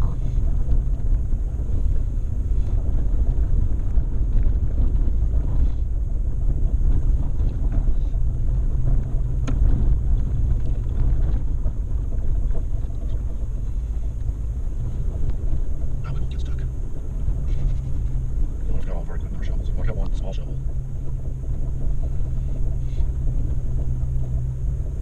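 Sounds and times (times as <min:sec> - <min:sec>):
off-road vehicle engine rumble: 0:00.0 - 0:25.0
wind buffeting microphone: 0:00.0 - 0:25.0.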